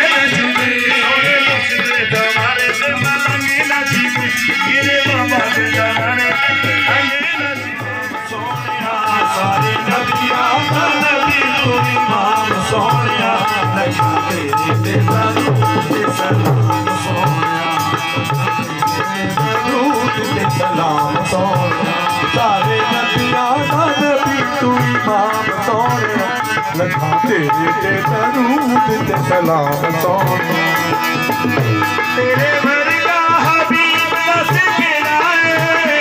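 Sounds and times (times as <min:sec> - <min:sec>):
hand drum: 0:00.0 - 0:36.0
harmonium: 0:00.0 - 0:36.0
men singing through microphones: 0:00.0 - 0:36.0.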